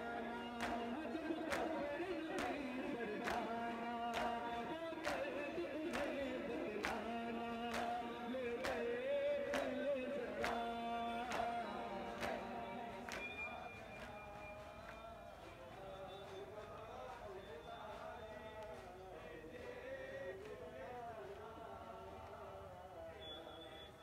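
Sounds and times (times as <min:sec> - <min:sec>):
men chanting in chorus: 0:00.0 - 0:24.0.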